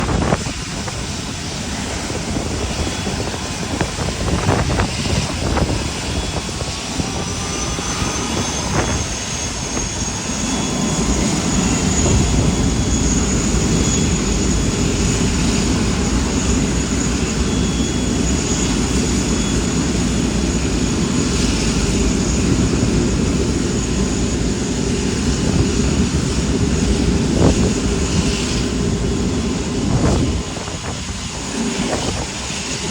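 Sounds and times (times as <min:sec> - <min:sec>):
jet engines whining and rumbling: 0:00.0 - 0:32.9.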